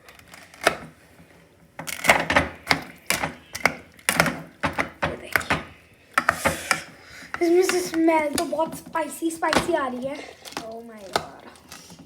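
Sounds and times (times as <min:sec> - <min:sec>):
kitchen utensils knocking and clicking: 0:01.8 - 0:12.0.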